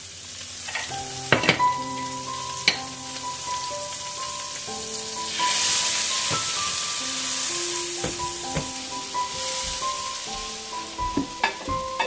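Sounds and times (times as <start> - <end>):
butter sizzling in a pan: 0.0 - 12.0
soft background music: 0.0 - 12.0.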